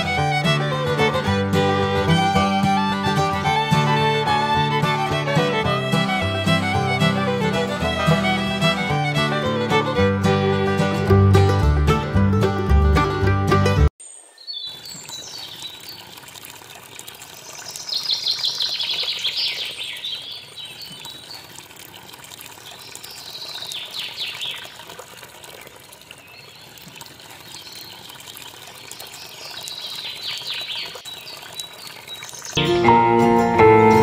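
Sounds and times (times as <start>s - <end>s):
water trickling into pond: 0.0s - 10.1s, 14.0s - 32.7s.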